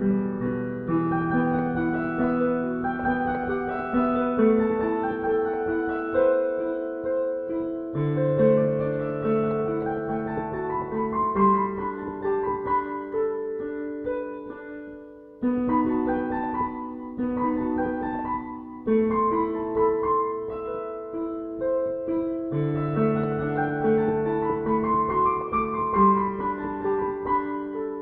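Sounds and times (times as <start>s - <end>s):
slow piano music: 0.0s - 28.0s.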